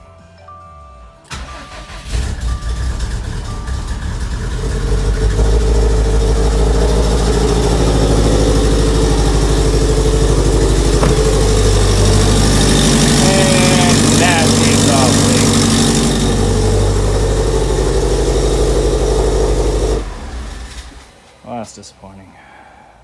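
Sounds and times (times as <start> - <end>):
car engine idling: 1.3 - 21.4.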